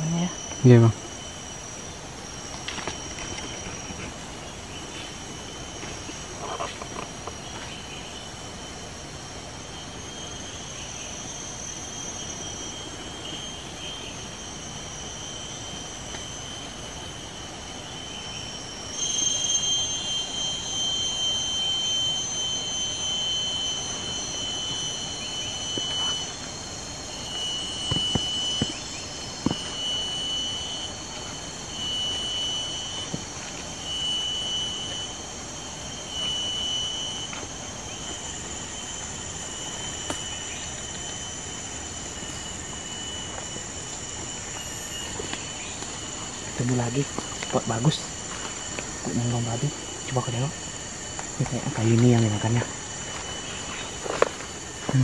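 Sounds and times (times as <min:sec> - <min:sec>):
insects whining: 0:00.0 - 0:55.0
loud pulsing insect whine: 0:00.0 - 0:55.0.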